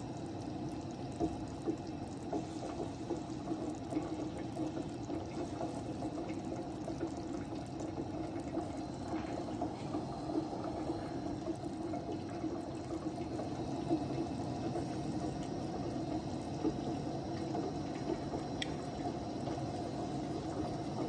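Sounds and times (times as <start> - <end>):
syrup boiling in a pot: 0.0 - 21.0.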